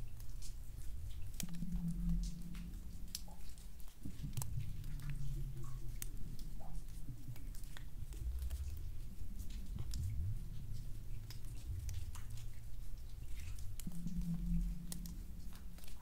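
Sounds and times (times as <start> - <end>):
low wavering rumble: 0.0 - 16.0
sharp ticks and clicks: 0.0 - 16.0.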